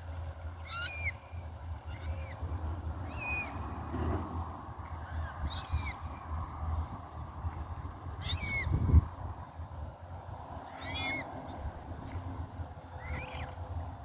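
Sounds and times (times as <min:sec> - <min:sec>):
steady low rumble: 0:00.0 - 0:14.0
waterbird calling: 0:00.0 - 0:14.0.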